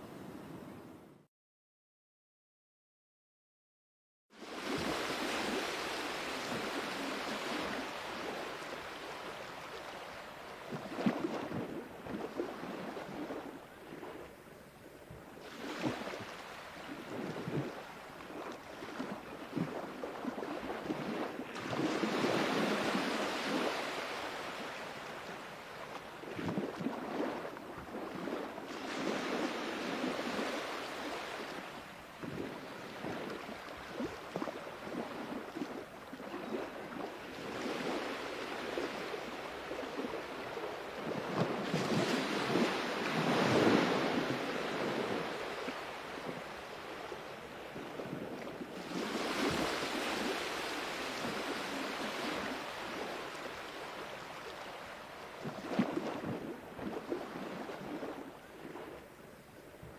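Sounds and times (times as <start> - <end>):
sea waves washing in: 4.4 - 14.7, 15.3 - 59.6.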